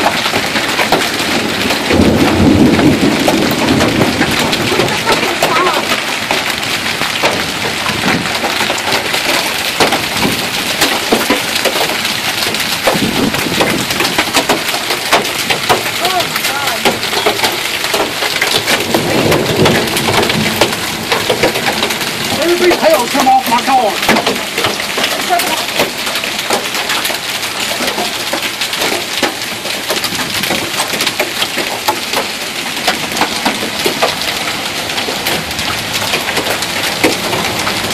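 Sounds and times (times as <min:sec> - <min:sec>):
hailstones striking: 0:00.0 - 0:37.9
heavy rain hissing: 0:00.0 - 0:37.9.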